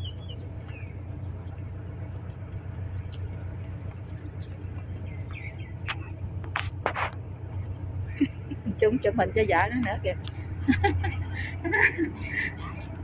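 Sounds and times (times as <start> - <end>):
engine idling drone: 0.0 - 13.0.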